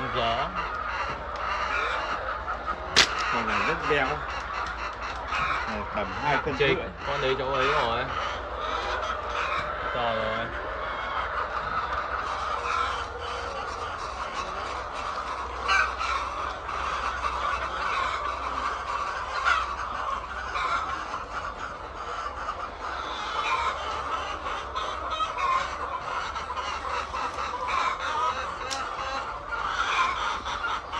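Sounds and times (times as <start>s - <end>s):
chickens clucking and squawking: 0.0s - 30.9s.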